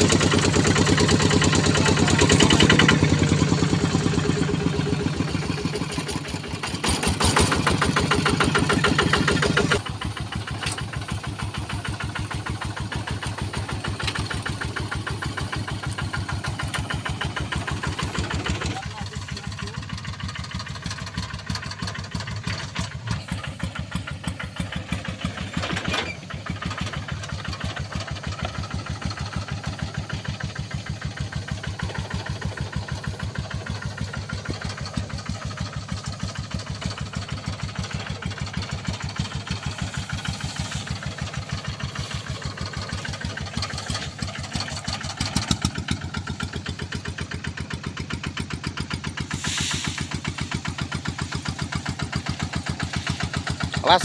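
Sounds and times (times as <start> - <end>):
combine harvester engine running: 0.0 - 54.0.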